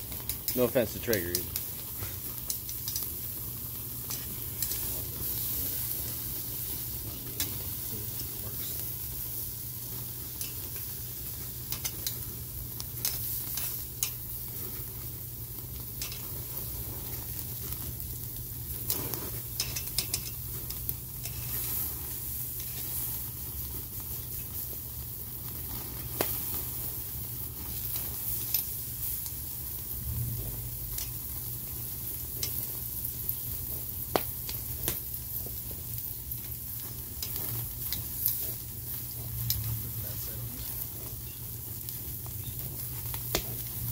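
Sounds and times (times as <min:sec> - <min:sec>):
fire crackling and popping: 0:00.0 - 0:43.9
steaks sizzling: 0:00.0 - 0:43.9.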